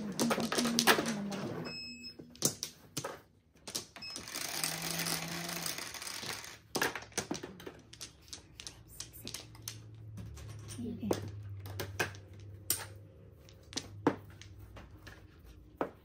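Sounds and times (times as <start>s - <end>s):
mahjong tiles clicking: 0.0s - 1.5s, 2.3s - 15.8s.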